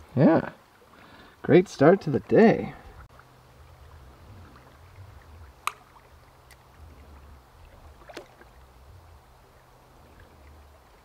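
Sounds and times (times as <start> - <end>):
stream water sloshing: 0.0 - 11.0.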